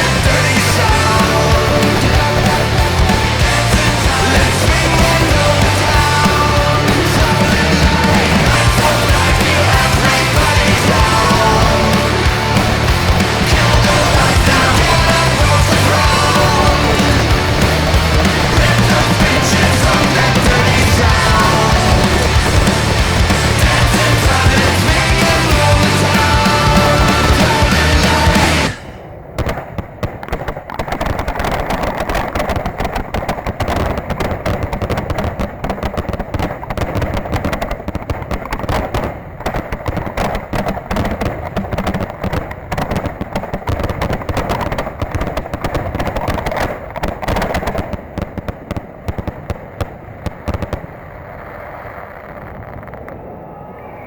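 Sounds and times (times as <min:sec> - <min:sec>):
fireworks bursting: 0:00.0 - 0:53.6.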